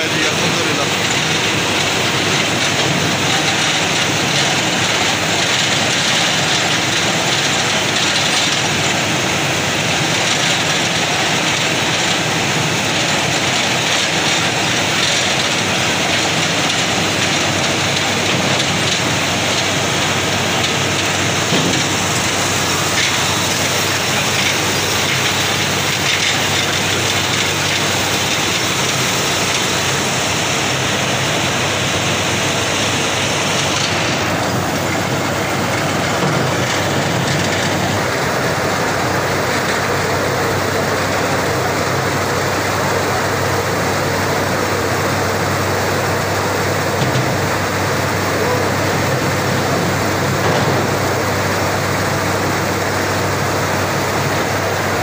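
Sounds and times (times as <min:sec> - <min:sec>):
drilling rig mechanical noise: 0:00.0 - 0:55.0.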